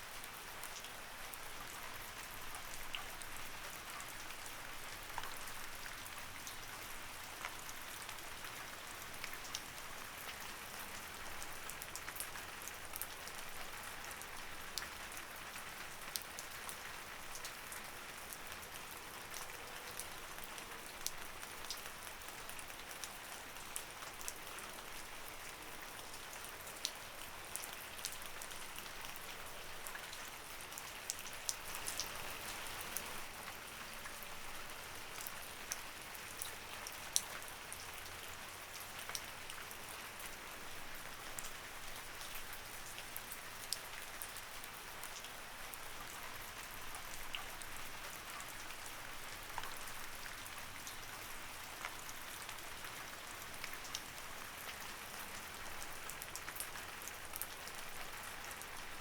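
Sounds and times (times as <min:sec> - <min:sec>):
light rain falling: 0:00.0 - 0:59.0
raindrops ticking on a surface: 0:00.0 - 0:59.0.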